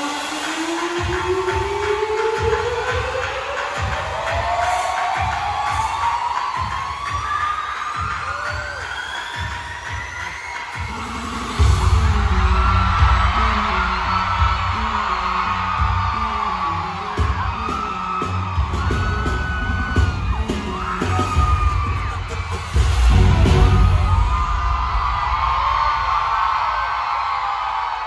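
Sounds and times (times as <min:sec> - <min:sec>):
fans screaming and whooping: 0:00.0 - 0:28.0
pop music with heavy bass: 0:00.0 - 0:28.0.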